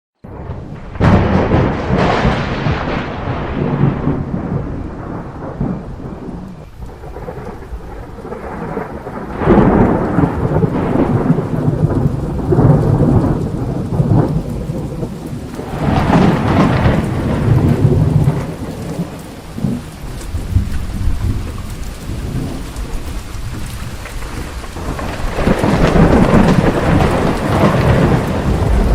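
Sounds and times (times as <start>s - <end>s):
rolling thunder: 0.2s - 28.9s
steady rain: 0.2s - 28.9s.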